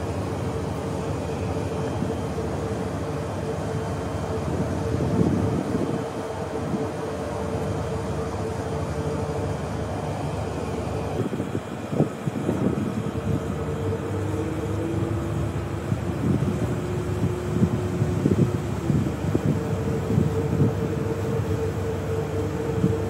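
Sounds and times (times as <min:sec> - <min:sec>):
subway train whine and rumble: 0:00.0 - 0:23.0.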